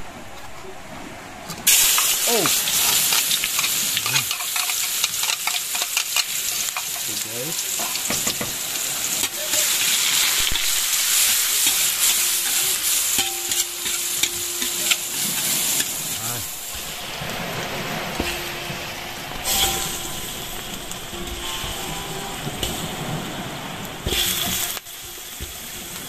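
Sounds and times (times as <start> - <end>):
food sizzling in a pan: 1.7 - 26.0.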